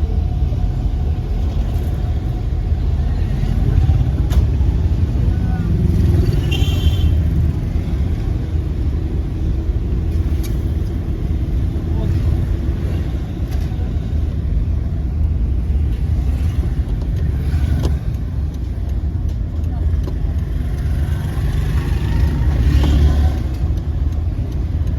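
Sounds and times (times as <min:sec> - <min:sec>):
low traffic rumble: 0:00.0 - 0:24.9.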